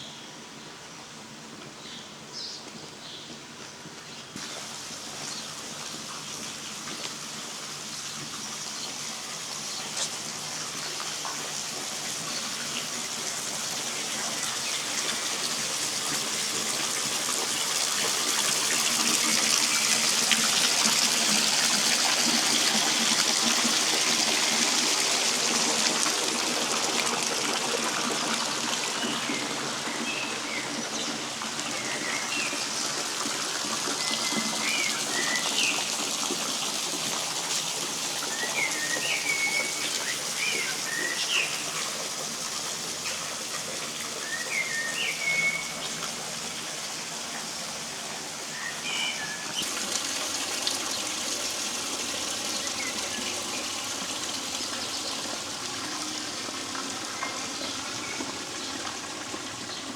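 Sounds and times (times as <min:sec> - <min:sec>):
rushing river water: 0:04.4 - 0:59.9.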